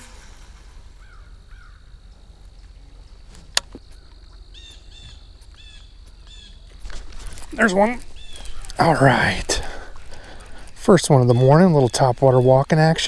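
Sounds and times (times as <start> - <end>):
faint high whine: 0.0 - 13.0
birds chirping: 0.5 - 13.0.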